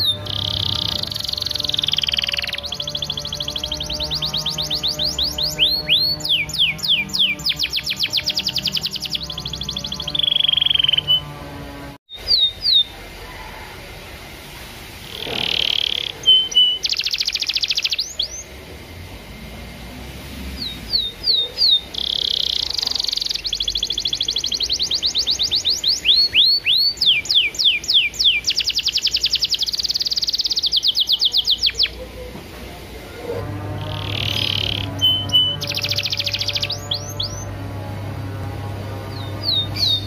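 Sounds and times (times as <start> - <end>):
canary singing trills: 0.0 - 13.0, 15.1 - 18.6, 20.4 - 32.2, 33.4 - 40.0.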